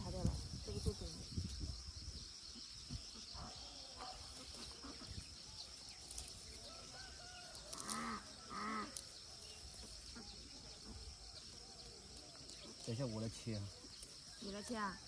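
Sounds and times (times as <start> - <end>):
birds calling: 0.0 - 15.0
high insect drone: 0.0 - 15.0.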